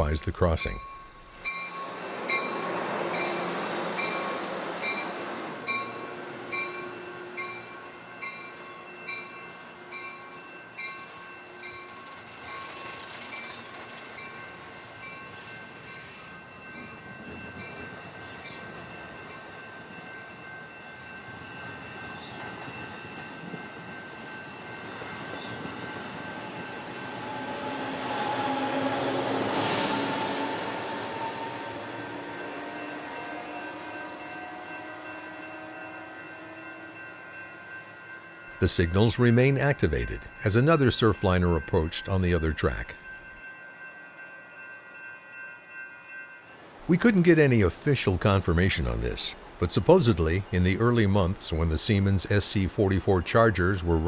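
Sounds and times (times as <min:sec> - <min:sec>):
crossing warning bells ringing: 0:00.0 - 0:54.0
passenger train running: 0:00.0 - 0:54.0.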